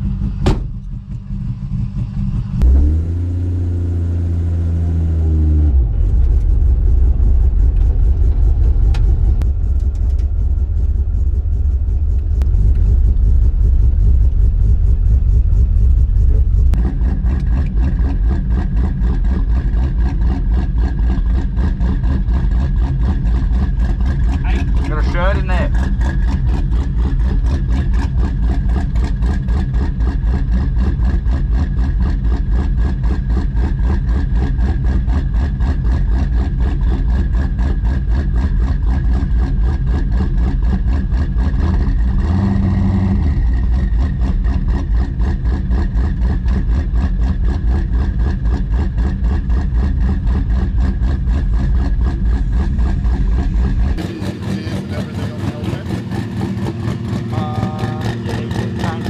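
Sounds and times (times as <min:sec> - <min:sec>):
car engine idling: 0:00.0 - 0:05.0, 0:05.7 - 0:59.0.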